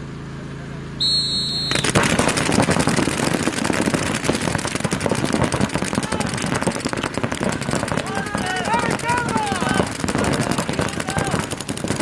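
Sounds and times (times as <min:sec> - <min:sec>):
paintball markers firing rapidly: 0:01.7 - 0:12.0.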